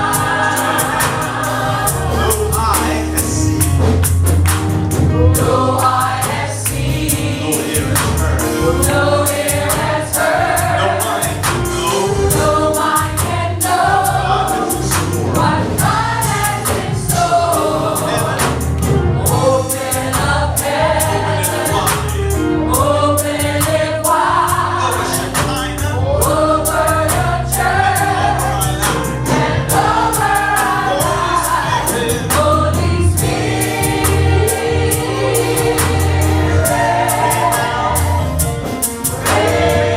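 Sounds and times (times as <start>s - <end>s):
choir singing: 0.0s - 3.6s, 5.3s - 39.9s
bass line: 0.0s - 39.9s
drum beat: 0.0s - 39.9s.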